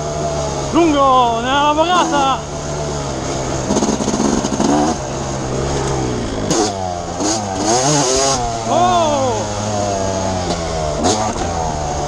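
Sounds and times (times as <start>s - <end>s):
motocross engine at full throttle: 0.0s - 12.0s.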